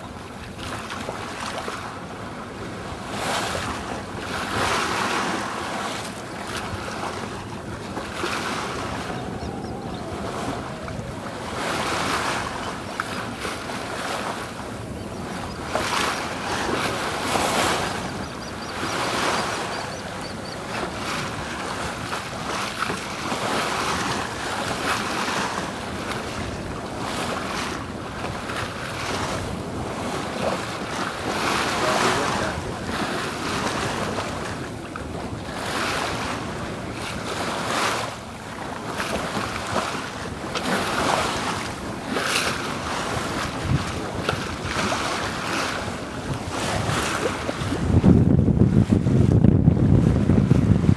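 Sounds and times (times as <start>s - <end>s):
water rushing along boat hull: 0.0s - 50.9s
wind buffeting microphone: 0.0s - 50.9s.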